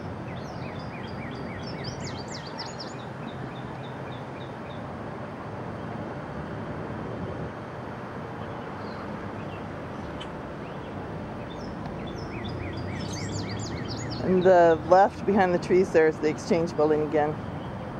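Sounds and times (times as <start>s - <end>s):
songbird chirping: 0.0s - 4.9s, 8.3s - 17.9s
outdoor background rumble: 0.0s - 17.9s.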